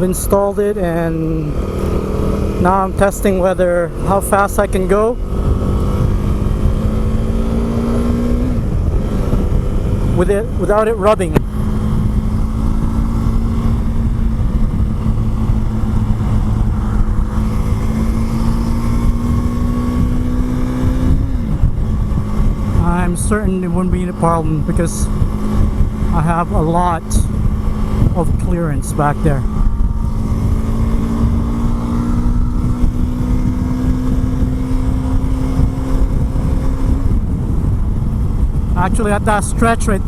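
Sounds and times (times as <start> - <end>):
motorcycle engine at speed: 0.0 - 40.0
wind rushing: 1.1 - 40.0.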